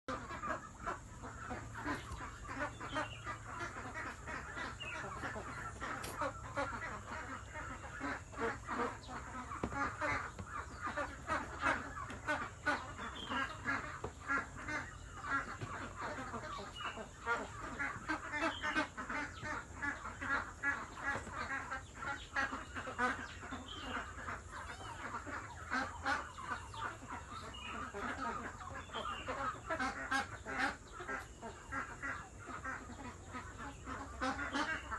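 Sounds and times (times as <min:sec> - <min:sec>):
poultry calling and chattering: 0:00.0 - 0:34.9.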